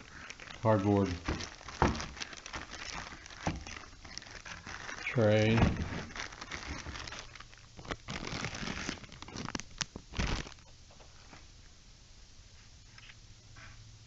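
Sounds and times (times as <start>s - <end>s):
cardboard and wrapping crinkling: 0.0s - 11.5s.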